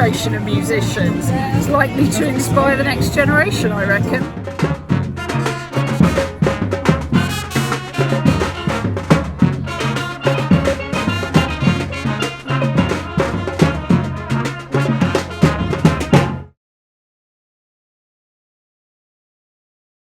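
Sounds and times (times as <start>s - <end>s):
street band drums and brass: 0.0s - 16.6s.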